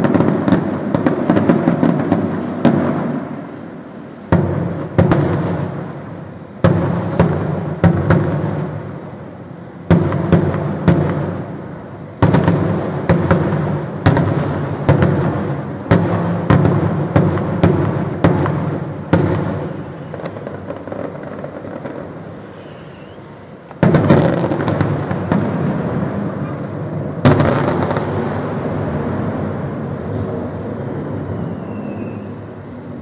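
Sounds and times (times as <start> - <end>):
firework crackling: 0.0 - 33.0.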